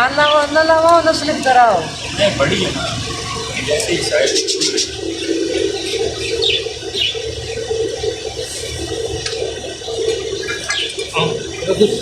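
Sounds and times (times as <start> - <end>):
constant hum: 0.0 - 12.0
water rushing: 0.0 - 12.0.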